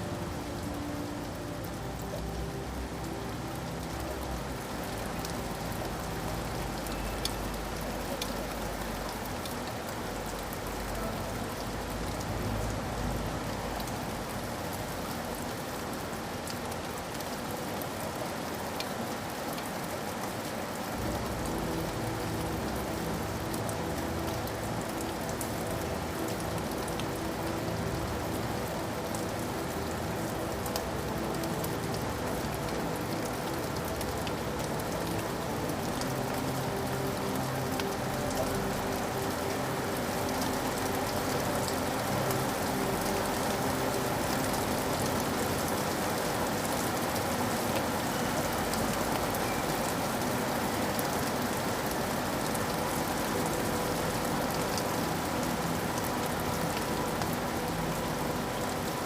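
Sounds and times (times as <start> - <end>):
raindrops clicking on a surface: 0.0 - 59.0
steady rain: 0.0 - 59.0.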